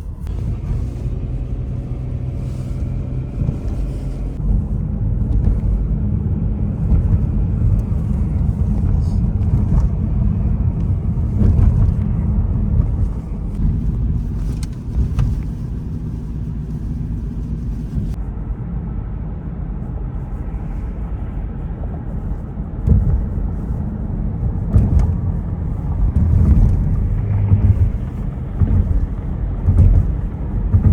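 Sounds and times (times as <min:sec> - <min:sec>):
car road rumble: 0:00.0 - 0:30.9.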